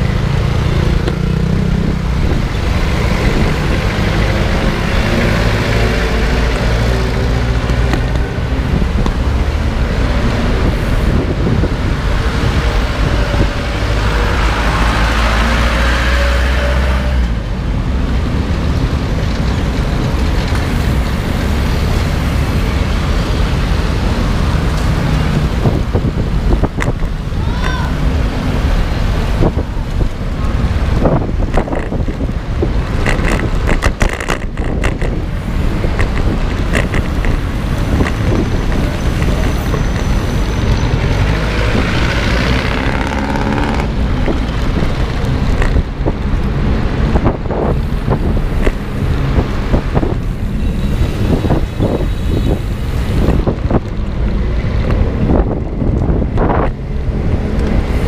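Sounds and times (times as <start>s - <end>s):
road traffic: 0.0s - 58.0s
wind rumble on microphone: 0.0s - 58.0s.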